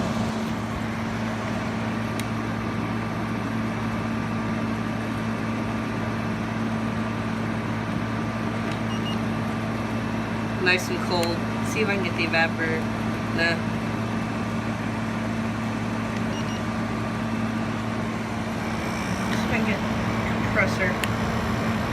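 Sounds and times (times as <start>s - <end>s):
air conditioner compressor hum: 0.0s - 21.9s
fan air rushing: 0.0s - 21.9s.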